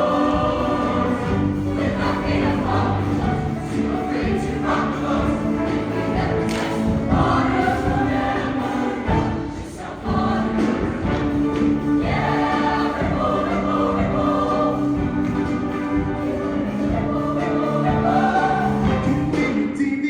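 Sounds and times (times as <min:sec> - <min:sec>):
live band playing: 0:00.0 - 0:19.8
choir singing in harmony: 0:00.0 - 0:20.0.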